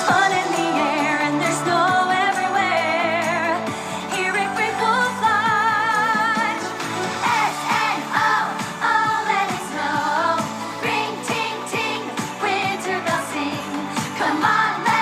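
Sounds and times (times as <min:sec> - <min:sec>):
pop song with vocals: 0:00.0 - 0:15.0.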